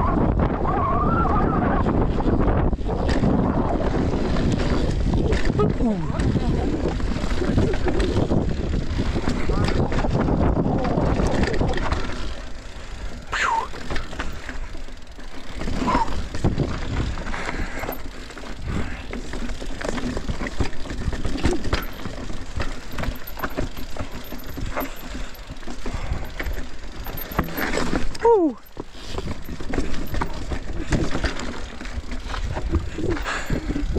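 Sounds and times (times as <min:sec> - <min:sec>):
bike tyres rumbling on trail: 0:00.0 - 0:33.9
bike clicks and rattles: 0:01.3 - 0:33.9.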